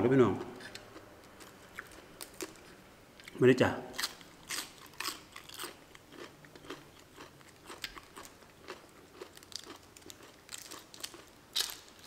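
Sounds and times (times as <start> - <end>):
person chewing food: 0.6 - 3.4, 4.0 - 11.9.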